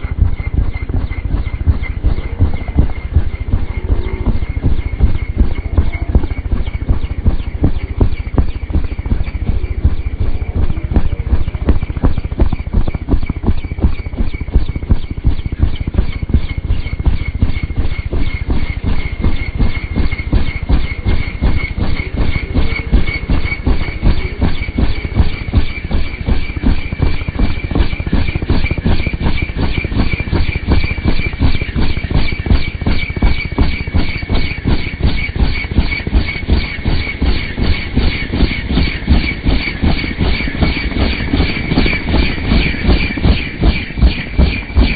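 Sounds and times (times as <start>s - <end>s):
helicopter rotor blades beating: 0.0s - 44.9s
high turbine whine: 0.0s - 44.9s.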